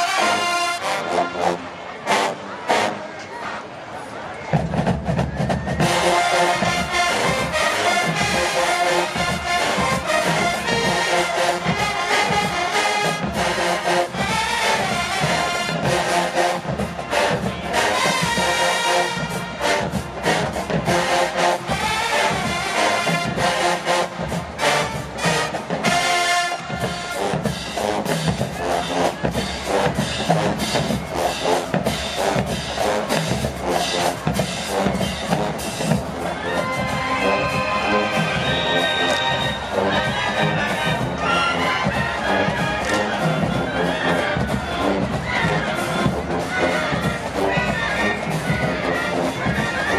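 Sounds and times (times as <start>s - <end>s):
marching band brass: 0.0s - 49.9s
driving drum cadence: 4.6s - 49.9s.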